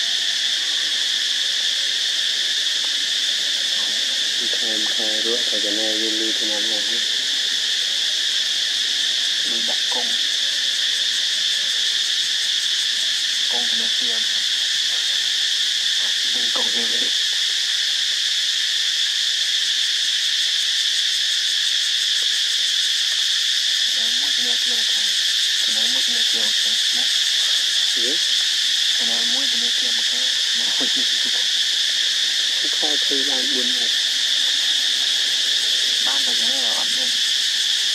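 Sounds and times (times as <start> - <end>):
insect chorus drone: 0.0 - 37.9.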